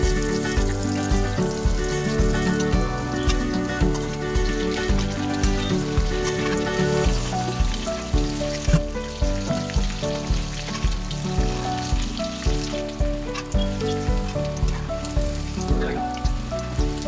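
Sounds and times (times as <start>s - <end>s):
background music with steady beat: 0.0s - 17.0s
chicken deep-frying in hot oil: 0.0s - 17.0s.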